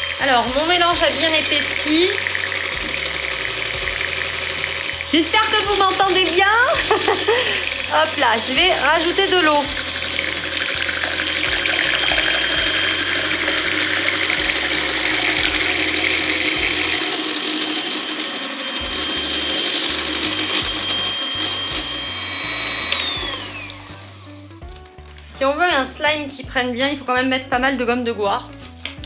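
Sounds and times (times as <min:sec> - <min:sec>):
electric hand mixer whirring: 0:00.0 - 0:25.0.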